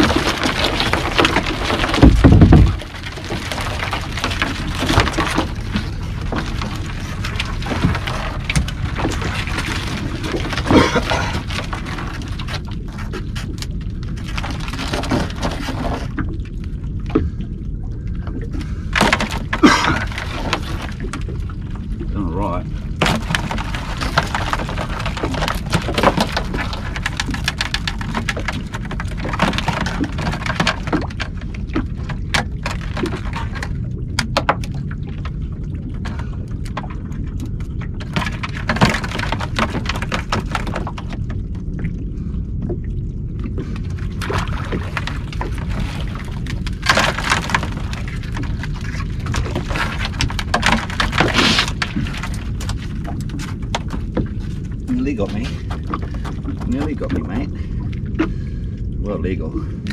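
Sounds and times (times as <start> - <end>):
crabbing gear clattering on deck: 0.0 - 13.5, 14.2 - 16.2, 18.9 - 21.3, 22.9 - 34.7, 38.0 - 41.3, 43.6 - 58.4
steady low rumble: 0.0 - 59.9.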